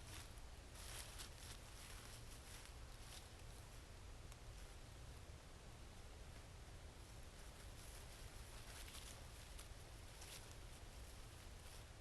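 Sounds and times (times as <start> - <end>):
faint rustles: 0.0 - 5.1, 6.0 - 12.0
faint hiss: 0.0 - 12.0.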